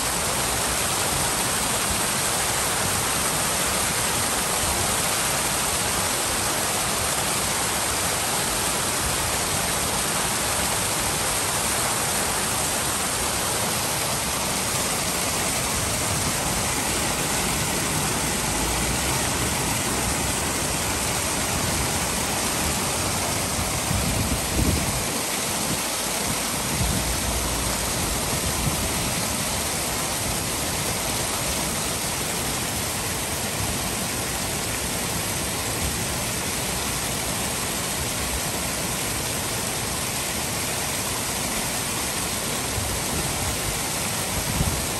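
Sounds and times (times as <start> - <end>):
fountain water splashing: 0.0 - 44.9.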